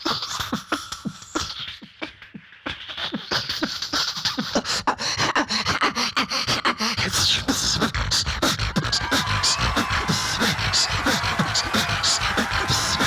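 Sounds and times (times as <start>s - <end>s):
beatboxing: 0.0s - 13.0s.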